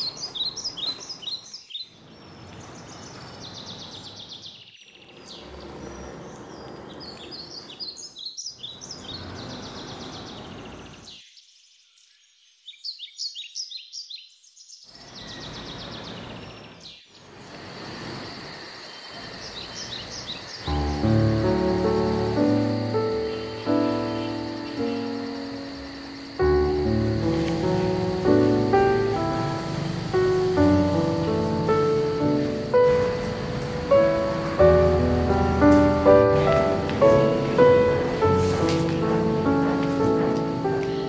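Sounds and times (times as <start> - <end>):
outdoor background noise: 0.0 - 41.0
small birds chirping: 0.0 - 41.0.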